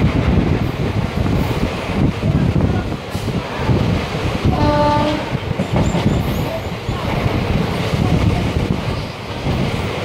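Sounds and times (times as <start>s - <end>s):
train coach rumbling on rails: 0.0s - 10.0s.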